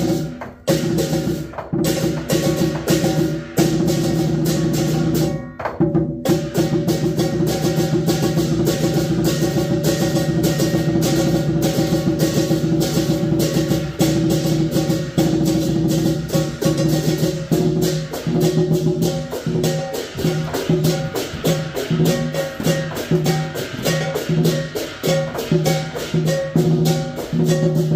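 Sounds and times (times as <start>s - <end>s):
hand cymbals clashing: 0.0s - 27.9s
large drum beating: 0.0s - 27.9s.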